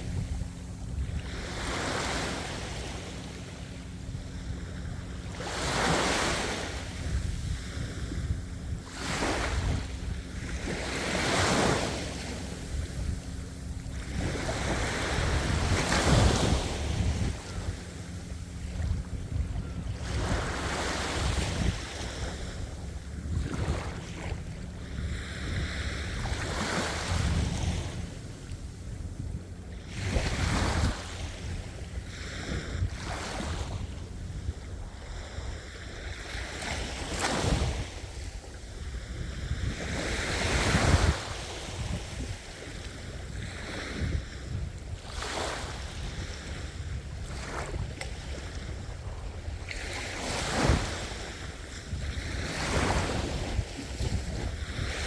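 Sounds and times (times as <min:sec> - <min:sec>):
low rumble of surf: 0:00.0 - 0:55.0
ocean waves breaking: 0:00.0 - 0:55.0
wind on microphone: 0:00.0 - 0:55.0.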